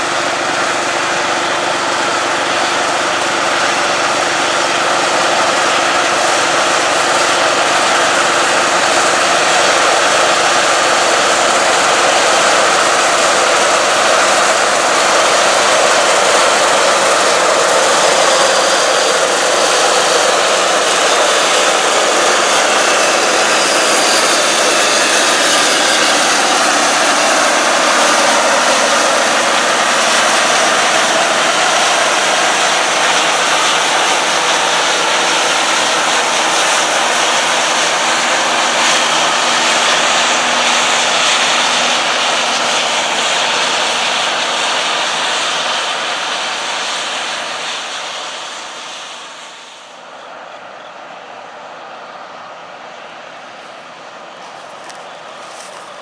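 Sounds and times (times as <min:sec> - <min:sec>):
combine harvester engine drone: 0:00.0 - 0:56.0
faint rising and falling whines: 0:00.0 - 0:56.0.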